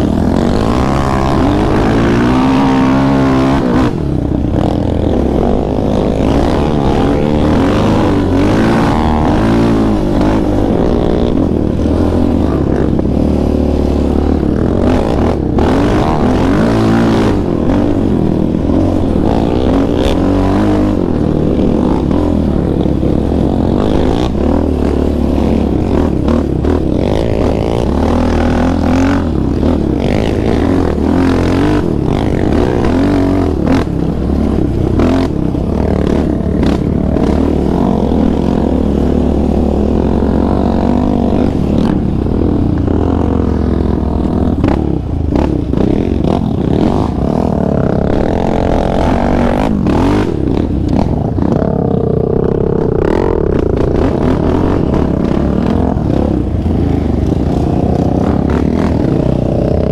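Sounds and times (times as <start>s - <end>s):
quad bike engine revving: 0.0s - 59.9s.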